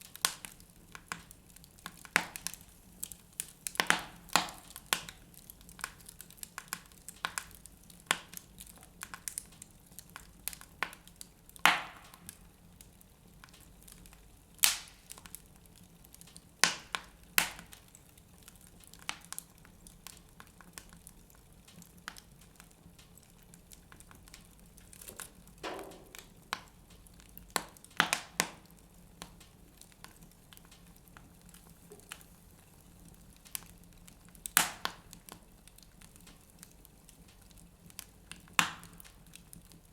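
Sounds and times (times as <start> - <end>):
fire pops and cracks: 0.0 - 39.9
wood fire crackling: 0.0 - 39.9.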